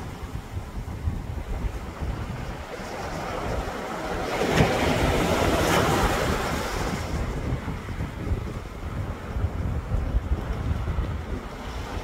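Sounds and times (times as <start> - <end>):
sea wave washing on beach: 0.0 - 12.0.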